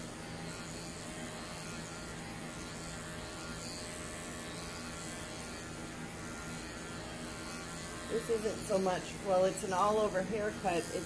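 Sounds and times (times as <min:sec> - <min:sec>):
electric clipper humming: 0:00.0 - 0:11.0.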